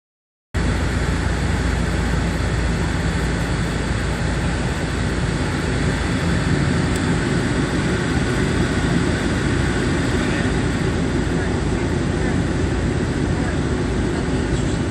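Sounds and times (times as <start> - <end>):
turboprop cabin drone: 0.6 - 14.9.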